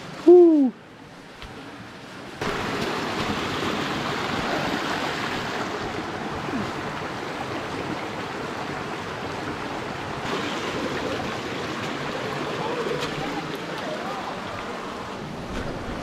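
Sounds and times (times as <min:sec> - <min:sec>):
creek flowing over stones: 0:02.3 - 0:16.0.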